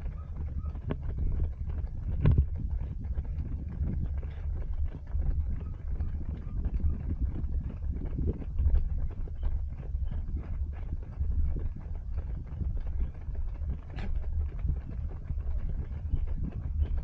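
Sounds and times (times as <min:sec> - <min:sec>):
low rumble: 0:00.0 - 0:17.0
wind buffeting microphone: 0:00.0 - 0:17.0.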